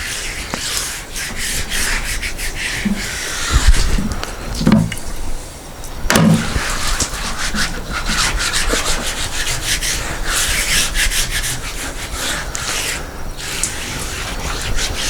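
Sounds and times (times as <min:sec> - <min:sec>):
water rubbing across wood: 0:00.0 - 0:05.5, 0:06.1 - 0:15.0.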